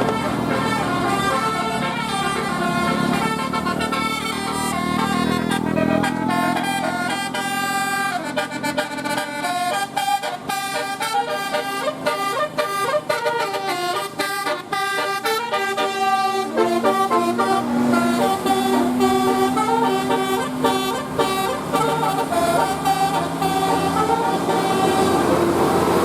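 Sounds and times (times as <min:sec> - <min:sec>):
bus air horn melody: 0:00.0 - 0:26.0.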